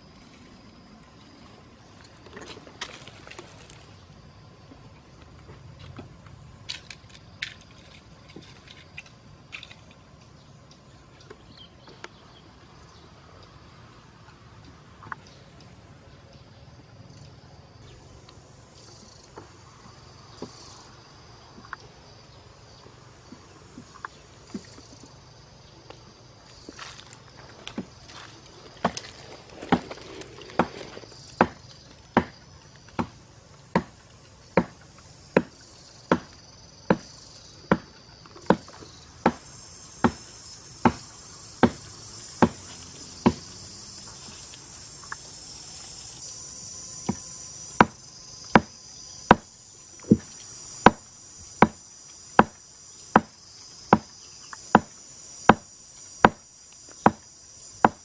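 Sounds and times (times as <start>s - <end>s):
forest insects droning: 0.0s - 58.0s.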